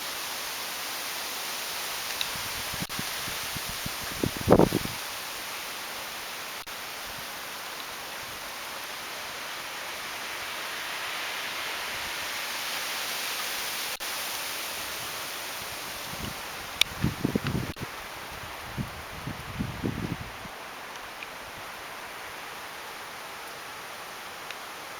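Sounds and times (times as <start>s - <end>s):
wind rushing through trees: 0.0s - 24.9s.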